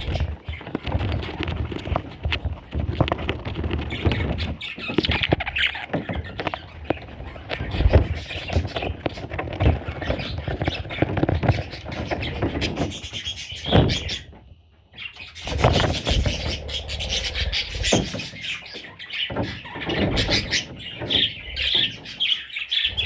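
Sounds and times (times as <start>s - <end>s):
bird chicks squealing and chirping: 0.0s - 23.0s.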